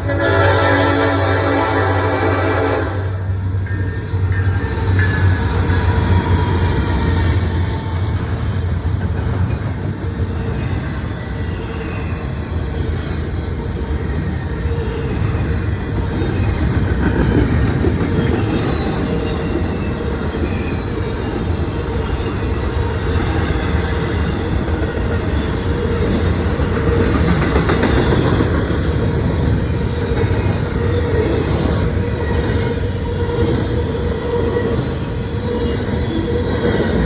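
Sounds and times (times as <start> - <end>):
freight train wheels on rails: 0.0 - 37.0.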